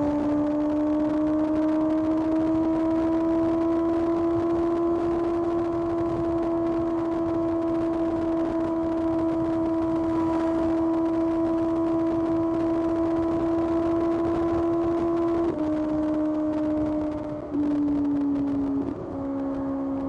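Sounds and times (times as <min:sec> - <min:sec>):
motorcycle engine running: 0:00.0 - 0:20.0
wind rush: 0:00.0 - 0:20.0.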